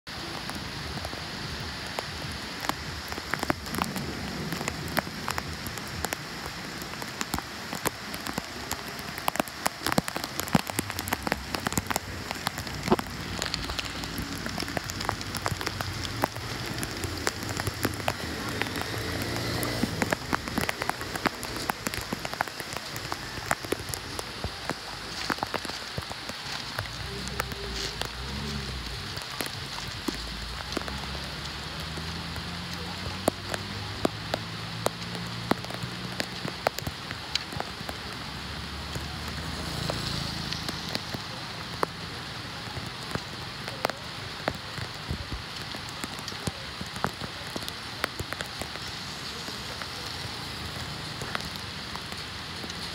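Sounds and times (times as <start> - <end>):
rain falling on flooded road: 0.0 - 52.9
drops splashing in puddles: 0.1 - 52.9.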